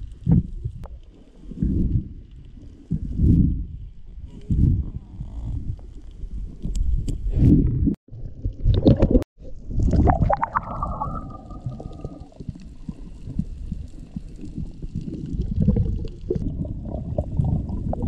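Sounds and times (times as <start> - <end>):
underwater rumble: 0.0 - 18.0
water gurgling and bubbles: 1.4 - 18.0.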